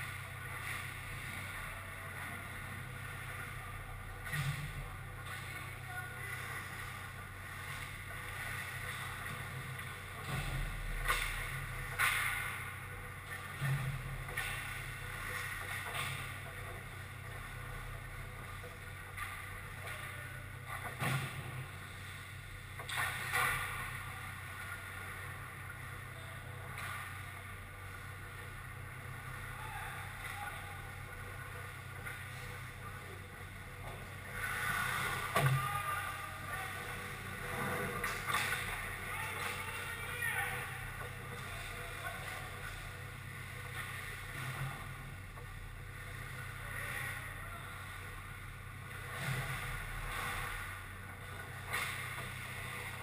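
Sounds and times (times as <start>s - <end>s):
low hum and hiss: 0.0s - 53.0s.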